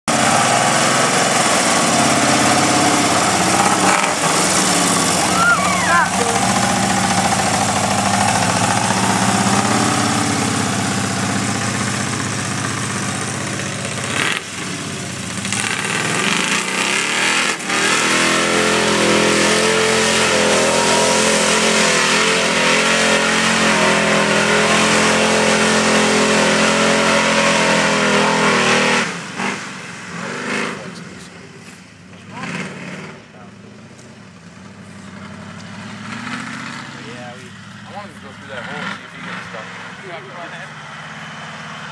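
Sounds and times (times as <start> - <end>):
truck engine revving hard: 0.0 - 33.6, 34.5 - 41.9
truck churning through mud: 0.0 - 41.9.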